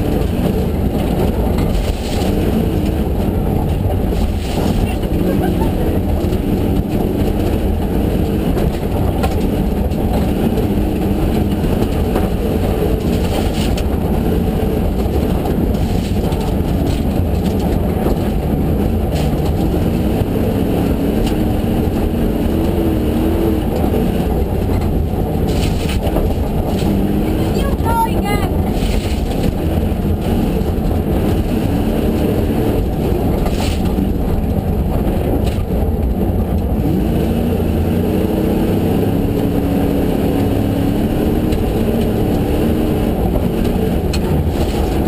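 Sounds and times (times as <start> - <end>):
car engine under load: 0.0 - 45.0
road and tyre noise: 0.0 - 45.0.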